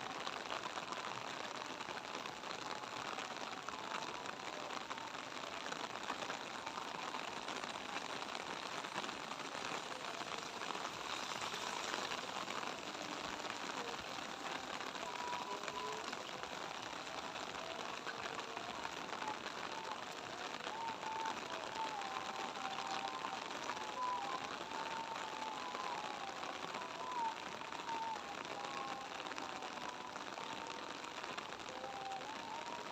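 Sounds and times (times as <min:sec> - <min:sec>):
light rain falling: 0:00.0 - 0:32.9.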